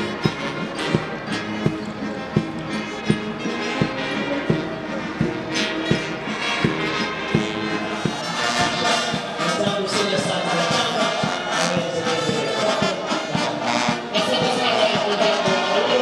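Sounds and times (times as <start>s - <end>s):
band music: 0.0s - 16.0s
steady drum beat: 0.0s - 16.0s.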